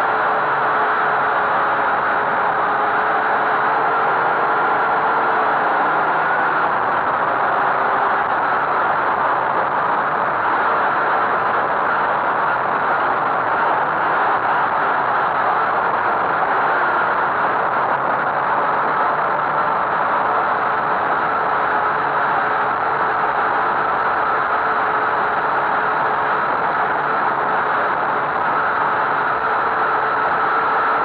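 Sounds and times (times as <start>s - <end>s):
drone propellers buzzing: 0.0s - 31.0s
faint steady whine: 0.0s - 31.0s.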